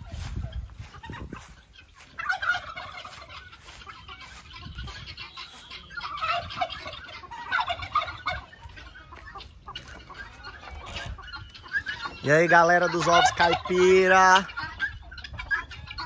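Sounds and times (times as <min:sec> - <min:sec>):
turkeys gobbling: 0:00.0 - 0:16.0.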